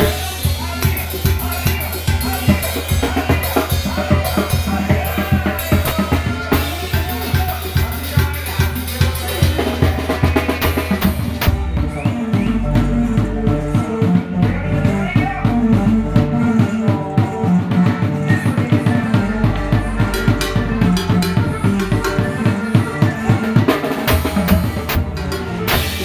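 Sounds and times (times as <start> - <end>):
loud drum hit: 0.0 - 22.6
drum kit beat: 0.0 - 26.0
live dance band playing: 0.0 - 26.0.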